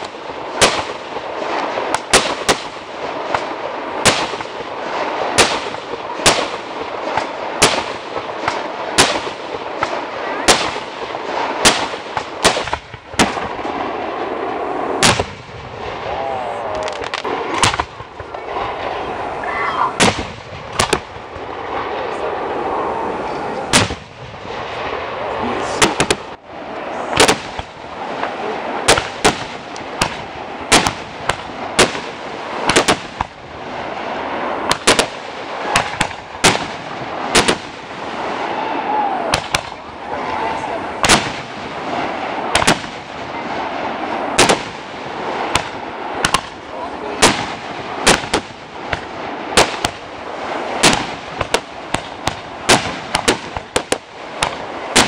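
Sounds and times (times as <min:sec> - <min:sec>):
firework shells bursting: 0:00.0 - 0:15.8, 0:16.7 - 0:18.4, 0:20.0 - 0:21.5, 0:25.6 - 0:26.4, 0:27.1 - 0:38.5, 0:41.0 - 0:55.0
continuous background din: 0:00.0 - 0:55.0.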